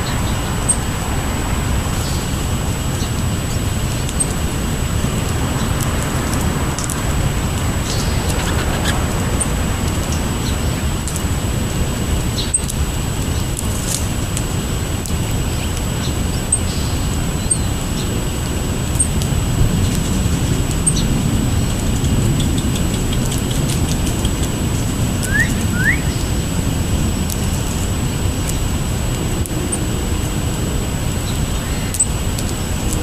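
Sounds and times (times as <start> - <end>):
low outdoor rumble: 0.0 - 33.0
small birds chipping: 0.0 - 33.0.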